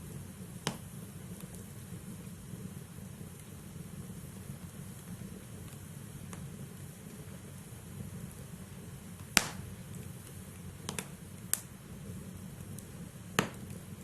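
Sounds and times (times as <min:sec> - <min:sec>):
fire flames rumbling: 0:00.0 - 0:14.0
logs crackling and popping: 0:00.0 - 0:14.0.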